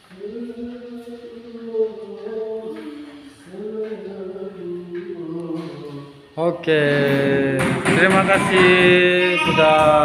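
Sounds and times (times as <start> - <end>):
person singing chant-like melody: 0.0 - 10.0.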